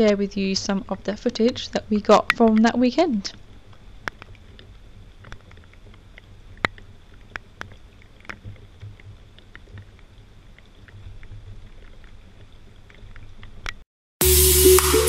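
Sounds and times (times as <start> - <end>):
raindrops ticking: 0.0 - 12.6.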